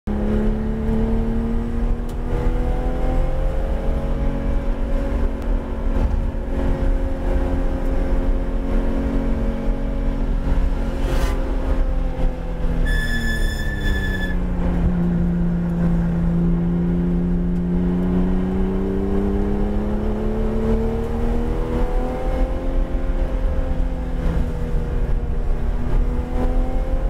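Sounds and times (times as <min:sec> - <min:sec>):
car engine heard from cabin: 0:00.1 - 0:27.0
road and tyre rumble: 0:00.1 - 0:27.0.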